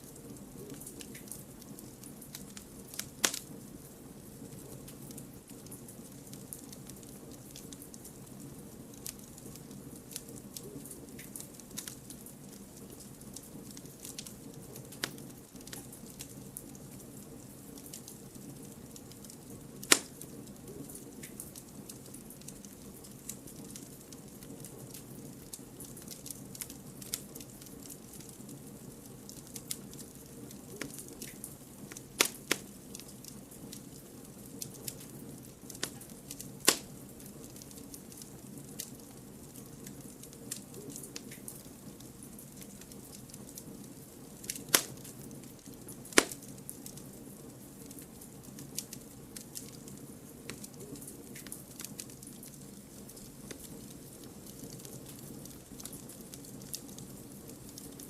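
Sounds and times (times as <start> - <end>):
campfire hissing and crackling: 0.0 - 58.0.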